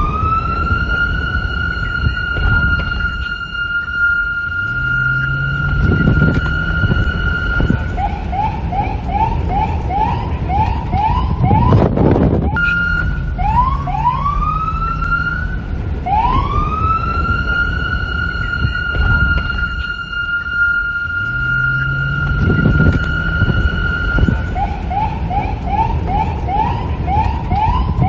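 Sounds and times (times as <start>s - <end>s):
police siren: 0.0s - 28.0s
wind noise: 0.0s - 28.0s.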